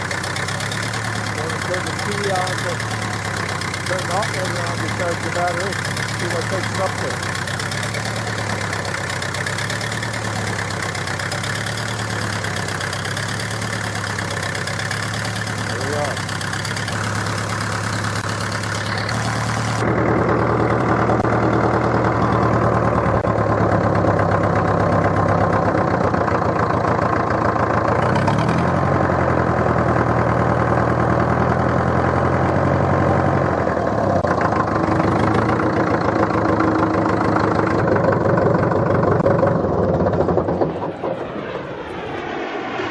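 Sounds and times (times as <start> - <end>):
tractor diesel engine running: 0.0 - 42.4.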